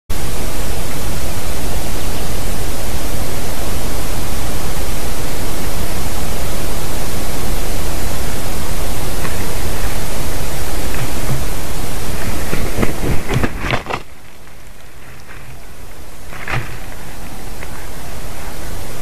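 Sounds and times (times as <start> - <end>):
steady rushing hiss: 0.1 - 19.0.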